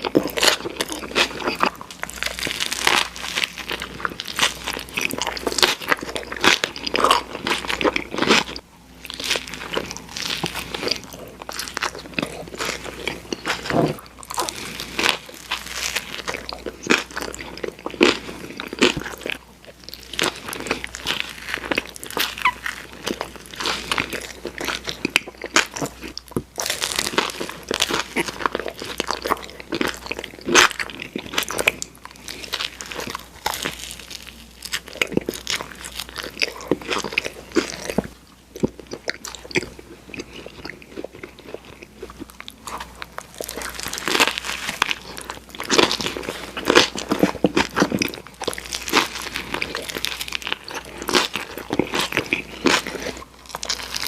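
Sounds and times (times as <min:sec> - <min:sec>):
chewing a crunchy sandwich: 0:00.0 - 0:54.0.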